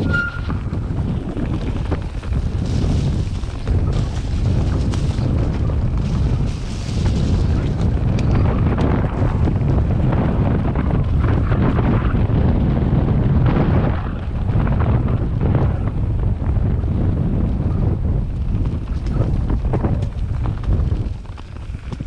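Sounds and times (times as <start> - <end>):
bike rattling and knocking: 0.0 - 22.0
tyres rumbling on dirt trail: 0.0 - 22.0
wind buffeting microphone: 0.0 - 22.0.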